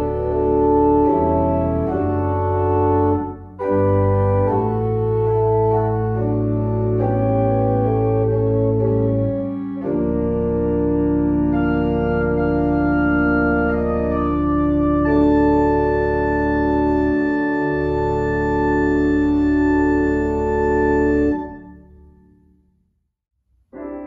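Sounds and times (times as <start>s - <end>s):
organ playing sustained chords: 0.0s - 22.3s.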